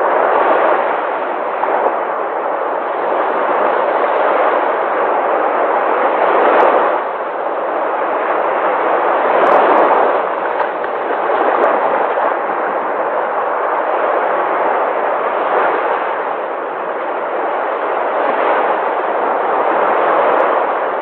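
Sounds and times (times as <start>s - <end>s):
sea waves washing ashore: 0.0s - 21.0s.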